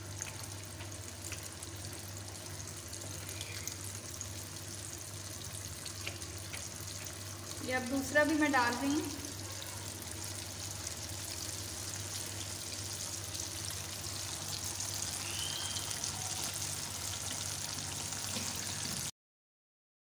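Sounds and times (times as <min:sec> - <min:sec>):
chicken deep-frying in oil: 0:00.0 - 0:19.1.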